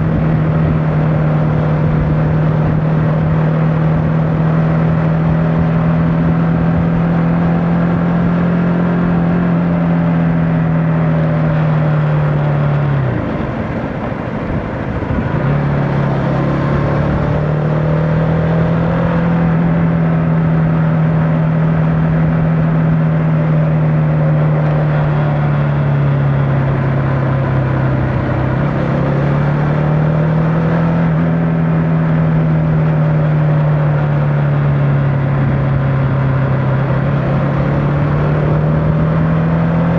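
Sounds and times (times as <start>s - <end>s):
motorcycle engine: 0.0s - 32.8s.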